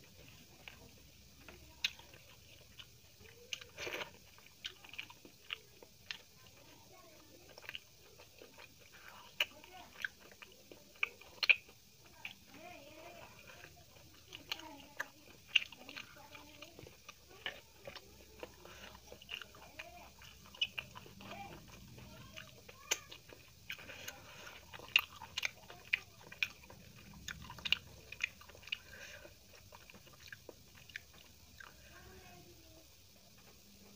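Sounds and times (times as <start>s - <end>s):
chewing food: 0.0s - 33.9s.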